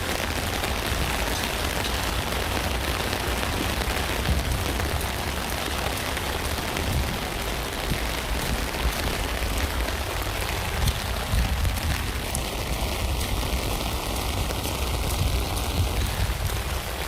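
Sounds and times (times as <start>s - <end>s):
rain falling on a tent: 0.0s - 17.0s
raindrops ticking on fabric: 0.0s - 17.0s.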